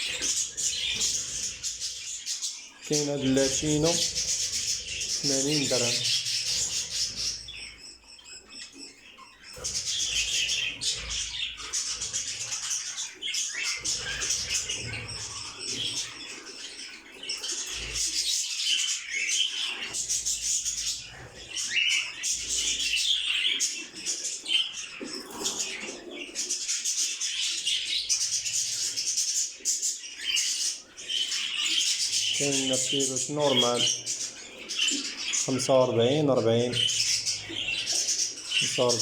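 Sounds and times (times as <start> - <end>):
small birds chirping and twittering: 0.0 - 39.0.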